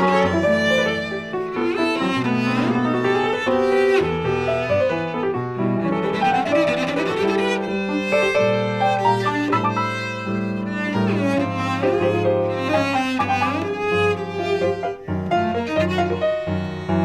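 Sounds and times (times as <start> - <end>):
cello bowing a melody: 0.0 - 17.0
grand piano accompaniment: 0.0 - 17.0.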